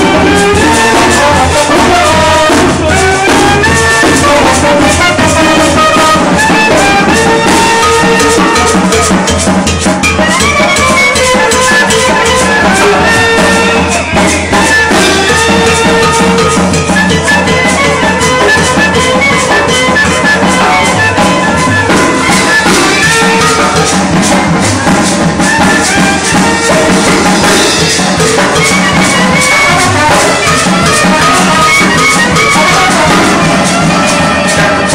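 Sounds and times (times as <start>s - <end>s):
latin dance music with brass: 0.0s - 34.9s.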